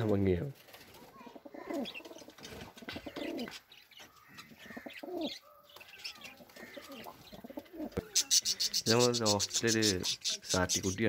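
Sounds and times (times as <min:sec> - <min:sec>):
pigeons cooing: 0:01.3 - 0:11.0
high bird chirps: 0:01.7 - 0:11.0.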